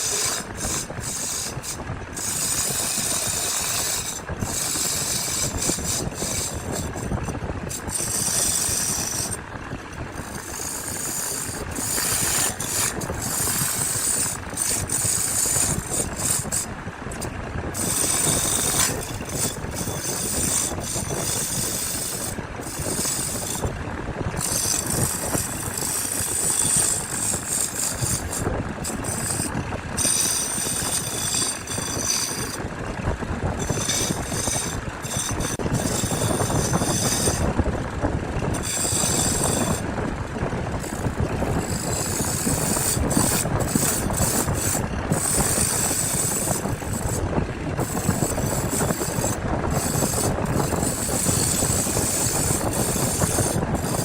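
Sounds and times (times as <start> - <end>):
power tool grinding wood: 0.0 - 54.0.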